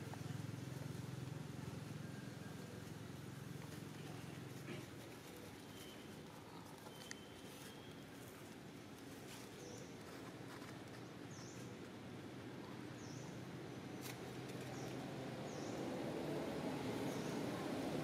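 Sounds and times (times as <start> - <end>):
outdoor ambience: 0.0 - 18.0.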